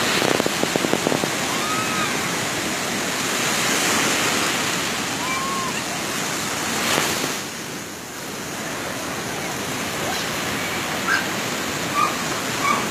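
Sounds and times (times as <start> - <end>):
small waves breaking on shore: 0.0 - 12.9.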